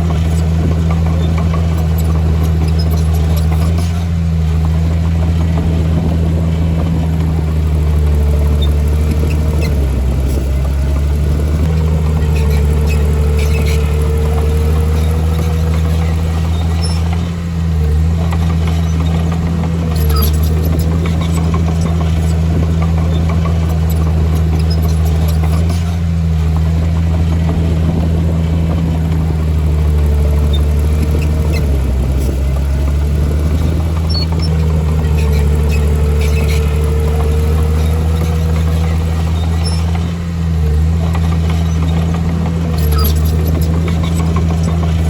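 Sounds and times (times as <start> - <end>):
diesel engine droning: 0.0 - 45.0
light clicks and clatter: 0.0 - 45.0.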